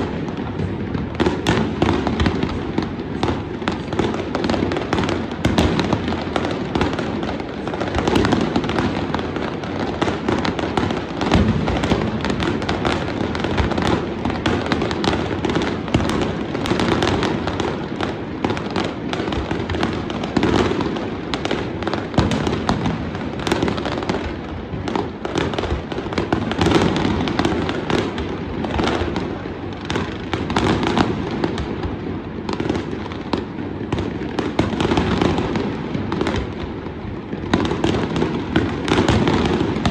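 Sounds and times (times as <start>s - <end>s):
fireworks bangs and crackles: 0.0s - 39.9s
rumble of fireworks booms: 0.0s - 39.9s.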